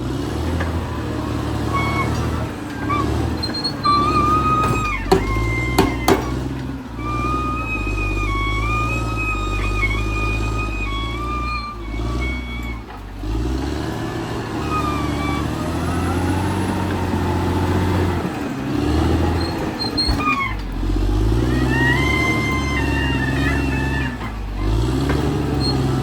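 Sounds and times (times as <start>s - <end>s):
bulldozer diesel engine working: 0.0s - 26.0s.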